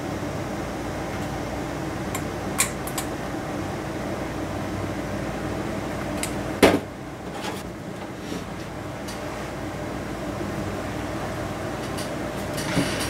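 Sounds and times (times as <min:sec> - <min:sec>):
fan-like hum: 0:00.0 - 0:13.0.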